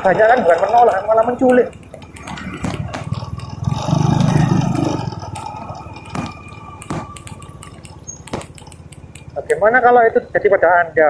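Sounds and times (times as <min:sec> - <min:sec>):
scattered clicks and knocks: 0:00.0 - 0:09.8
motorcycle engine running: 0:00.0 - 0:10.3.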